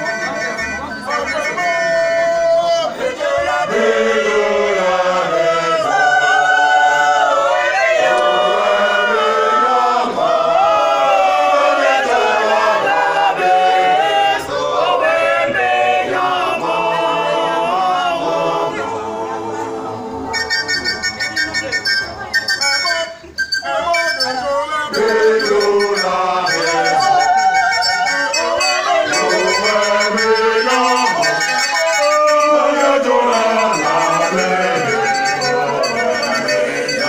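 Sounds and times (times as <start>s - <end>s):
women's choir singing a cappella: 2.0s - 20.8s, 23.7s - 37.0s.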